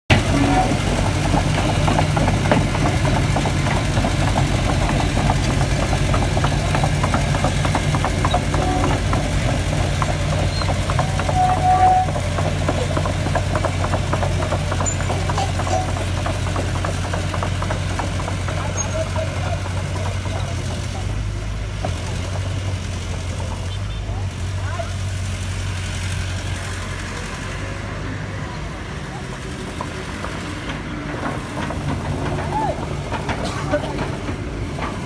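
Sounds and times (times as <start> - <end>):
diesel engines running: 0.1 - 35.0.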